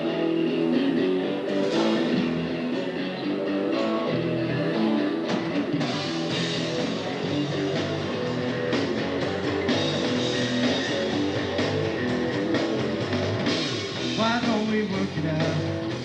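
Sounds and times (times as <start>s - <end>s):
bass guitar: 0.0s - 16.0s
drums and cymbals: 0.0s - 16.0s
guitar chords: 0.0s - 16.0s.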